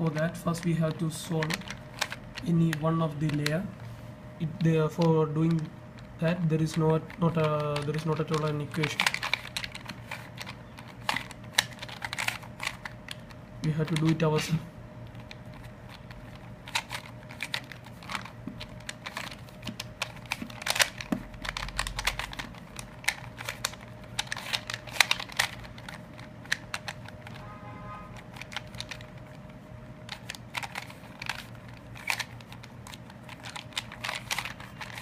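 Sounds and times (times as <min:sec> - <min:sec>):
puzzle cube plastic clicking: 0:00.0 - 0:03.6, 0:04.4 - 0:27.4, 0:28.1 - 0:35.0.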